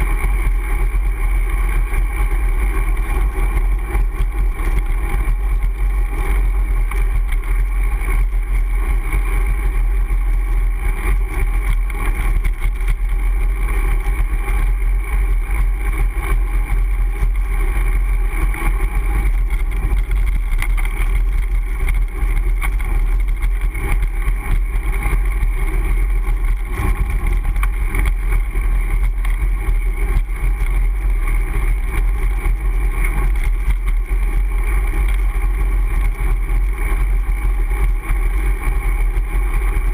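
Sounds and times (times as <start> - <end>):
wind and road noise rumble: 0.0 - 39.9.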